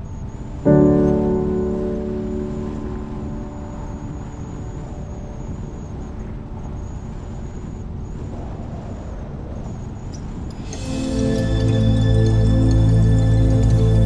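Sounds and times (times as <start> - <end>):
faint high whine: 0.0 - 14.0
road and wind noise: 0.0 - 14.0.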